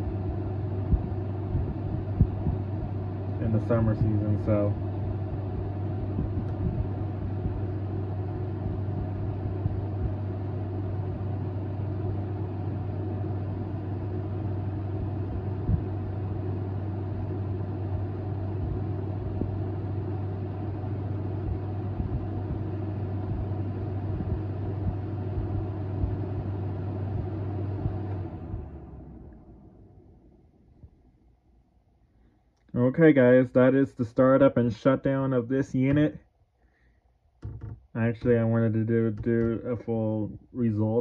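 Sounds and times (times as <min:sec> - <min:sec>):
fan air noise: 0:00.0 - 0:41.0
window air conditioner humming: 0:00.0 - 0:41.0.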